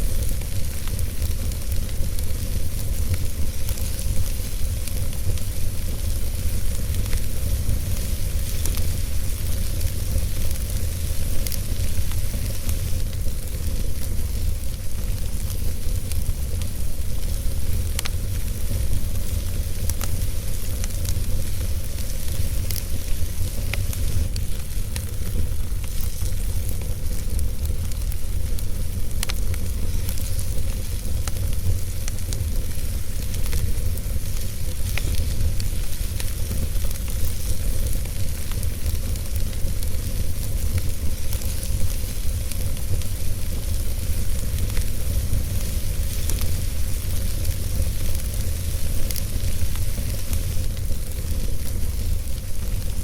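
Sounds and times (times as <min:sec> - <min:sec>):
fire crackling and popping: 0:00.0 - 0:53.0
fire rumbling: 0:00.0 - 0:53.0.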